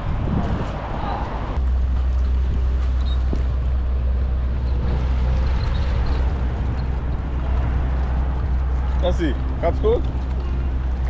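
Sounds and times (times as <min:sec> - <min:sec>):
car road rumble: 0:00.0 - 0:11.0.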